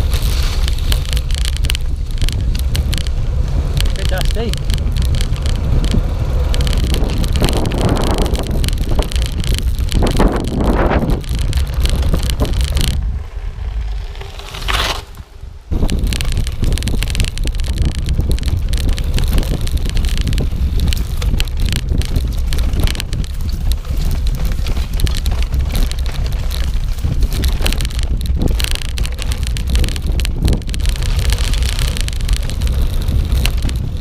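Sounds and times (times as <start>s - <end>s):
bike clicks and rattles: 0.0s - 34.0s
wind buffeting microphone: 0.0s - 34.0s.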